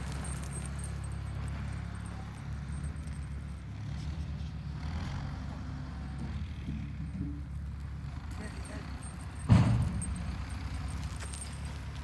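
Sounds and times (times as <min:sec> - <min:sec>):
faint outdoor background noise: 0:00.0 - 0:12.0
low engine hum: 0:00.0 - 0:12.0.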